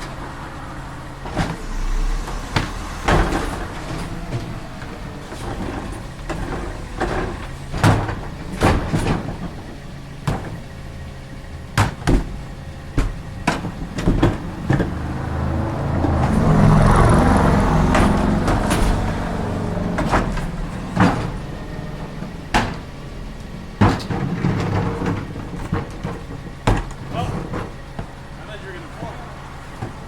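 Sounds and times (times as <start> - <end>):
garbage truck engine idling: 0.0 - 30.0
metal and plastic clanking: 1.2 - 30.0.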